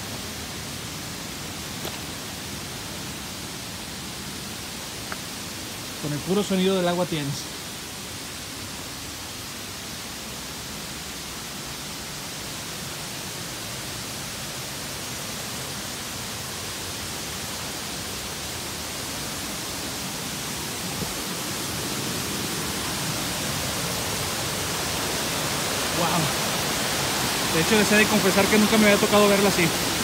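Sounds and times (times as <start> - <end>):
waterfall rushing over boulders: 0.0 - 30.0.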